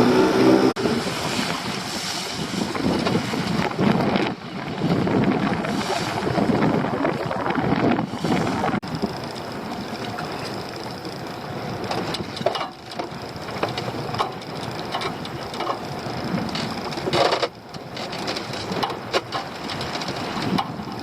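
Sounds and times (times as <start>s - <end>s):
water: 0.0s - 21.0s
wind: 0.0s - 21.0s
knocks and crackles: 1.2s - 21.0s.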